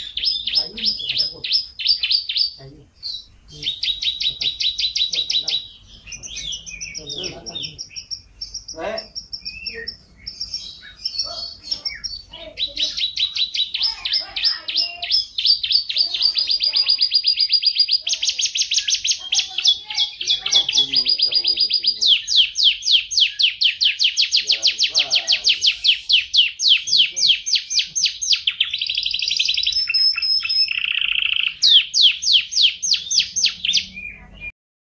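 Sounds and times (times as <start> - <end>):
canary singing trills: 0.0 - 34.5.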